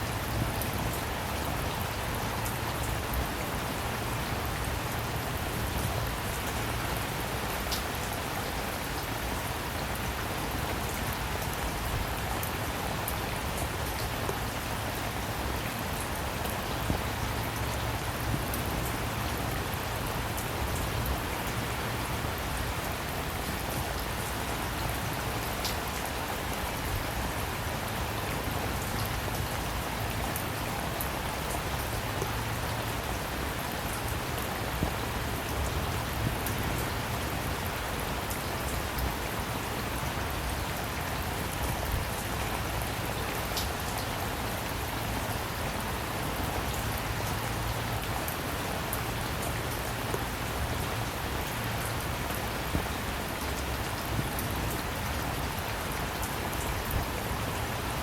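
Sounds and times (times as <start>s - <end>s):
rain drops spattering: 0.0s - 58.0s.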